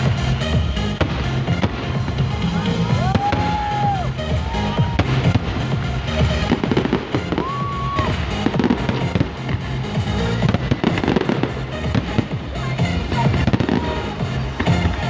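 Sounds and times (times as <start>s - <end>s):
fireworks bangs and crackling: 0.0s - 15.0s
loud music: 0.0s - 15.0s.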